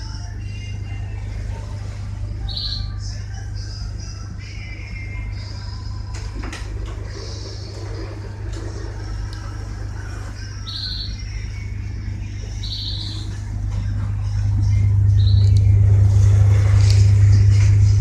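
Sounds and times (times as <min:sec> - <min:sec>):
tugboat engine droning: 0:00.0 - 0:18.0.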